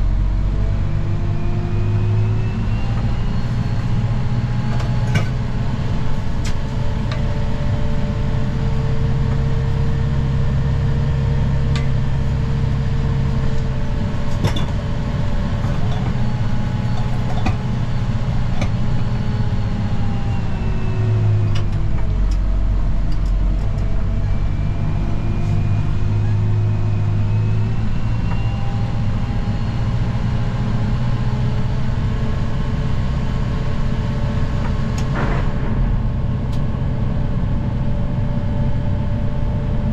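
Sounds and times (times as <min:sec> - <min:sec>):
snow plow engine droning: 0:00.0 - 0:39.9.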